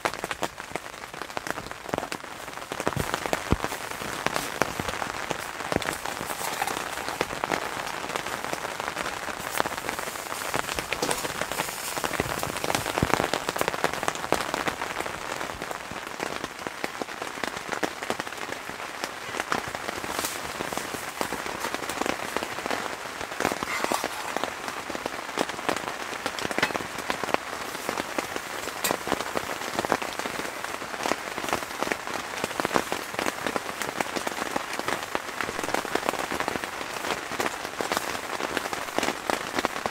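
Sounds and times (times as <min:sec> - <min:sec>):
rain pattering on tent: 0:00.0 - 0:39.9.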